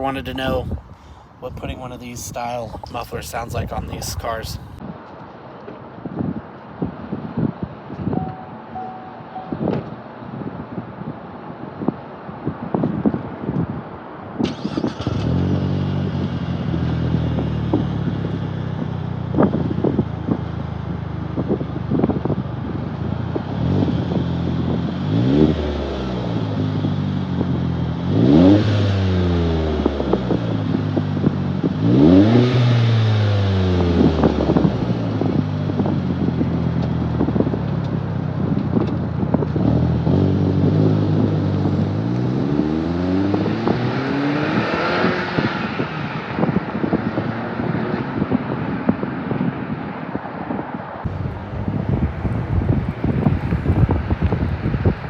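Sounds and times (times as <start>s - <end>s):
car engine idling and revving: 7.4s - 55.0s.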